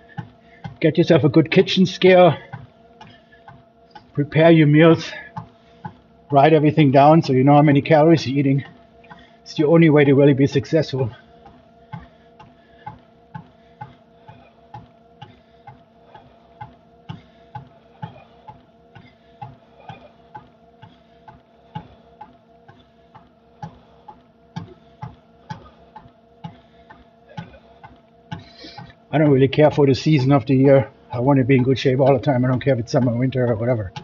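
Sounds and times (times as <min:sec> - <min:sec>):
cardio machine clicks: 0:00.0 - 0:34.0
steady machine hum: 0:00.0 - 0:34.0.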